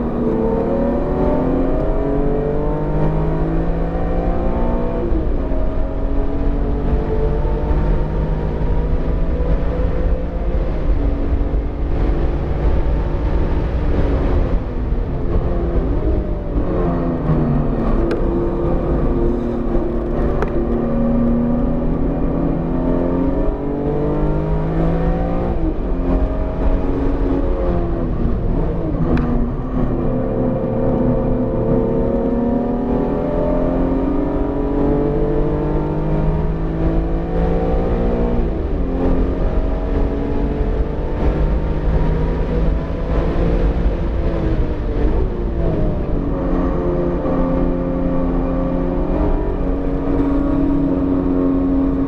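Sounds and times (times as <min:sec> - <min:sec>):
car engine accelerating and shifting: 0:00.0 - 0:52.0
road and wind noise: 0:00.0 - 0:52.0.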